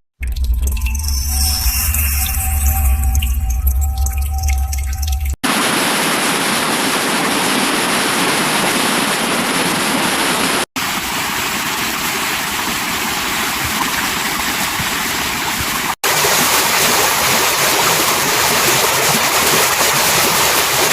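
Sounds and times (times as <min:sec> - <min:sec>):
waterfall rushing: 0:03.4 - 0:20.9.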